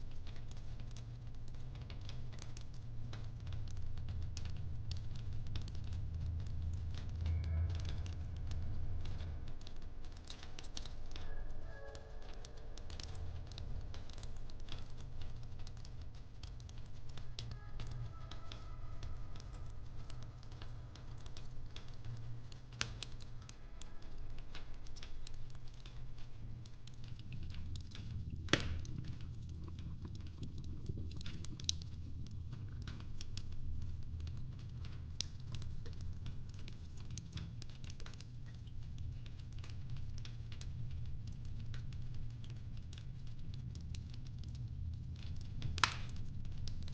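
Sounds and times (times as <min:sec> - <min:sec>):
fireplace crackling: 0:00.0 - 0:46.9.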